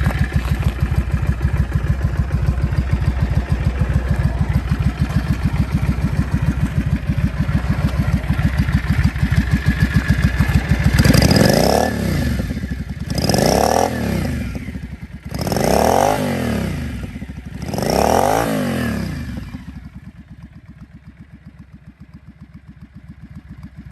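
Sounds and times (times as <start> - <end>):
motorcycle engine idling and revving: 0.0 - 23.9.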